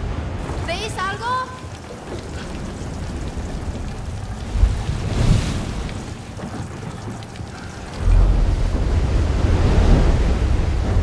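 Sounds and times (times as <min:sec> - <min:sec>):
steady rain: 0:00.0 - 0:11.0
wind: 0:00.0 - 0:11.0
thunder rolling: 0:00.4 - 0:11.0.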